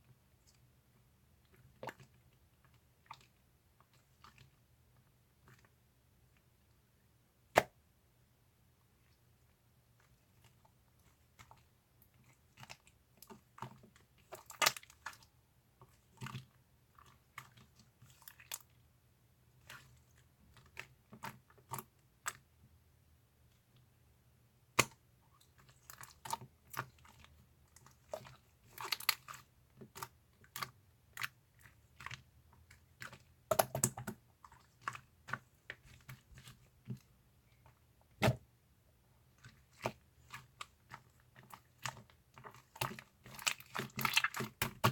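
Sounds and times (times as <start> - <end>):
slime squishing with clicks: 0.1 - 6.8, 7.4 - 7.8, 9.9 - 18.8, 19.5 - 22.7, 24.6 - 38.5, 39.2 - 44.9.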